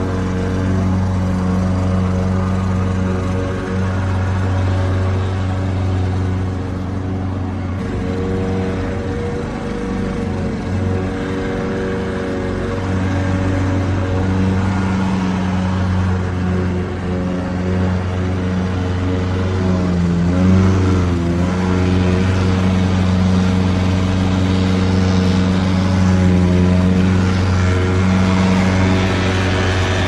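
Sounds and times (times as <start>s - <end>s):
lawnmower engine running: 0.0s - 30.0s.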